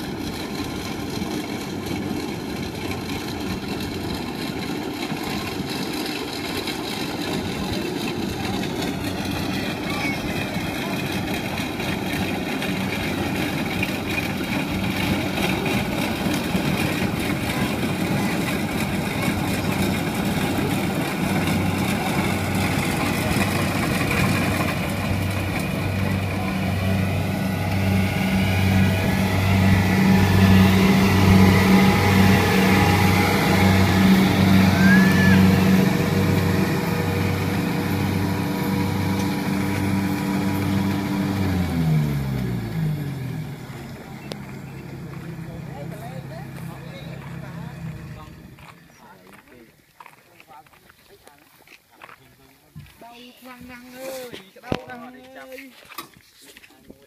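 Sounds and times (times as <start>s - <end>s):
combine harvester engine running: 0.0s - 49.4s.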